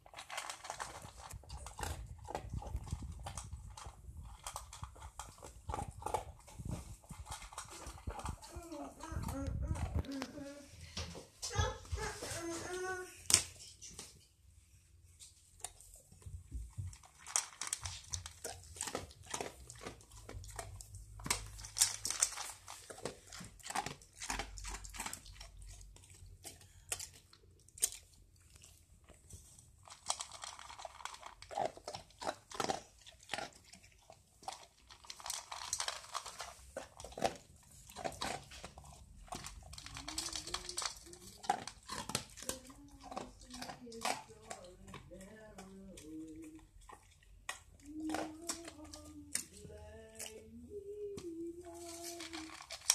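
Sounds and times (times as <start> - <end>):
dog crunching dry kibble: 0.0 - 14.2, 15.2 - 52.9.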